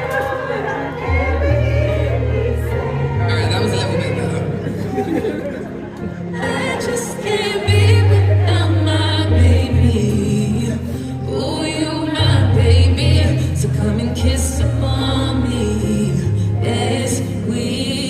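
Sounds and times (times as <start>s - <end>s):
keyboard chords: 0.0s - 18.0s.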